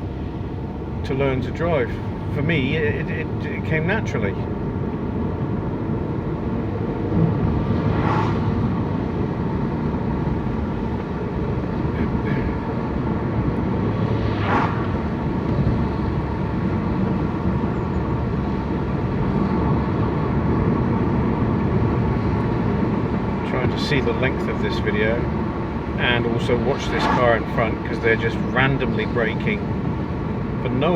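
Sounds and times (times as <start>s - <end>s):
car road and engine noise: 0.0s - 30.9s.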